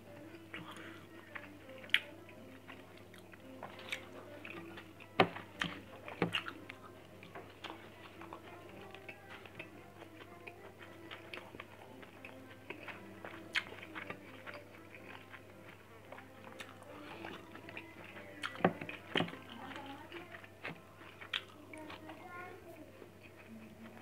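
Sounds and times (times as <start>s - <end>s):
person chewing: 0.2s - 22.2s.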